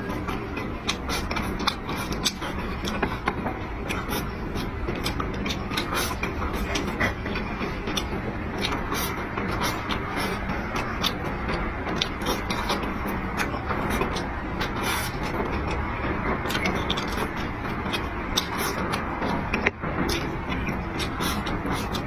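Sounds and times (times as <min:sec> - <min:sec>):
chewing and crunching: 0:00.0 - 0:22.0.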